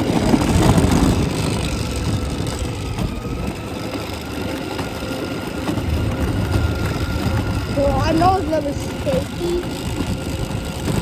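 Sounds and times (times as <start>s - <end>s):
electric motor whine: 0.0s - 11.0s
plastic wheels rumbling on concrete: 0.0s - 11.0s.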